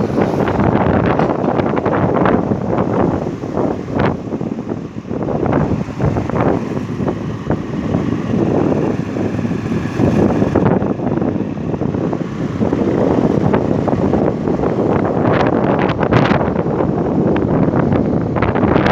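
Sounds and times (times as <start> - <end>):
vehicle running: 0.0 - 18.9
wind buffeting microphone: 0.0 - 18.9.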